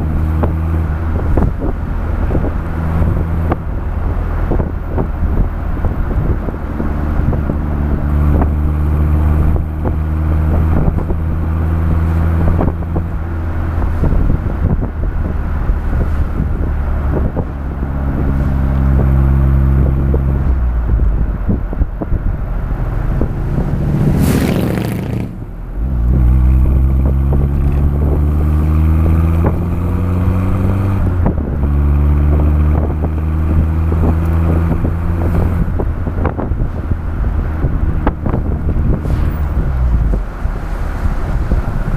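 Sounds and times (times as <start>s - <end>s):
car exhaust accelerating: 0.0s - 41.9s.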